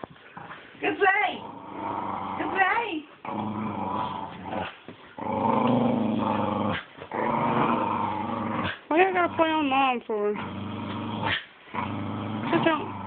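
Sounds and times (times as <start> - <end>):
dogs growling: 0.0 - 13.0.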